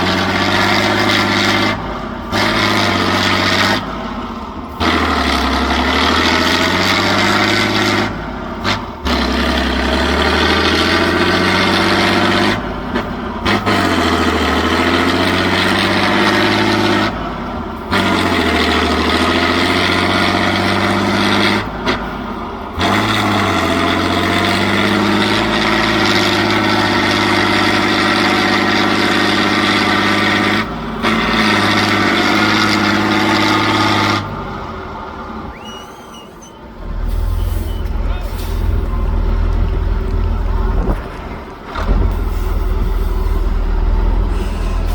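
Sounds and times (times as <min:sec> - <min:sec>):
truck engines running hard: 0:00.0 - 0:44.9.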